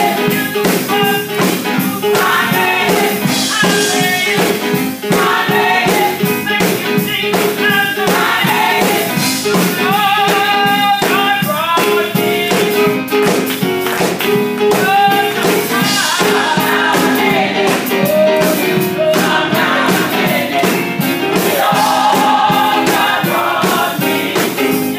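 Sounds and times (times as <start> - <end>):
band with steady beat: 0.0 - 24.9
choir singing gospel: 0.0 - 24.9.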